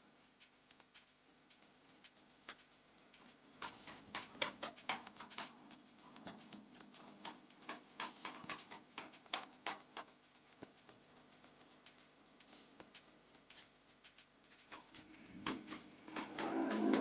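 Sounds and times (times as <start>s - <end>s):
hand tool tapping and scraping: 3.2s - 17.0s.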